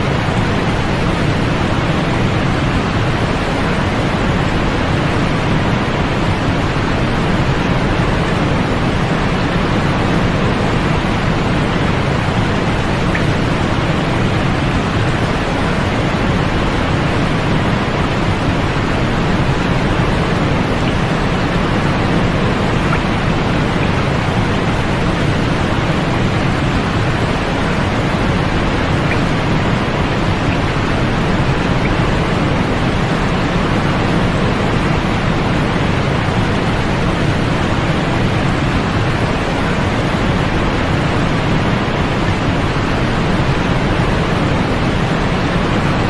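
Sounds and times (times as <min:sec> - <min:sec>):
white noise hiss: 0:00.0 - 0:46.0.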